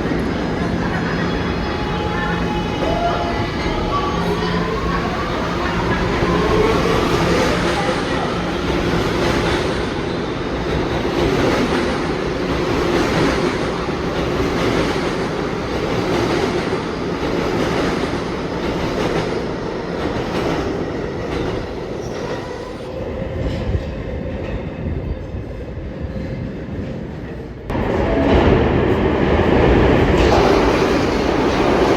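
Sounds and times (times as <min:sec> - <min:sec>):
subway train wheels rumbling: 0:00.0 - 0:31.9.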